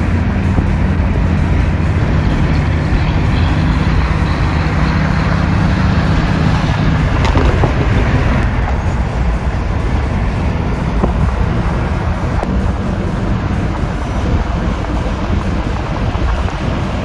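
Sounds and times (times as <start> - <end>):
hum: 0.0 - 17.0
vehicle rumble: 0.0 - 17.0.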